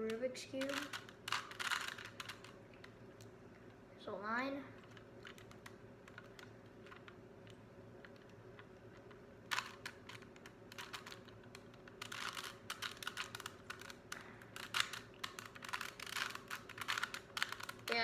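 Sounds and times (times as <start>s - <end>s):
puzzle cube clicking as turned: 0.1s - 3.0s, 4.8s - 18.0s.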